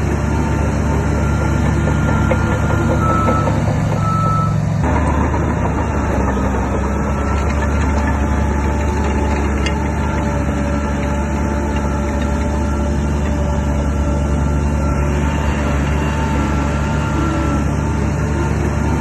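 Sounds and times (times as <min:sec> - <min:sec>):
diesel engine of heavy machinery: 0:00.0 - 0:19.0
reversing alarm beeping: 0:00.6 - 0:17.8.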